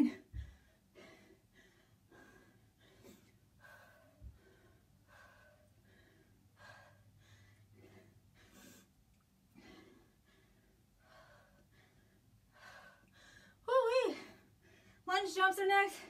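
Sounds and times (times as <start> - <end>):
woman breathing quickly: 0.0 - 15.1.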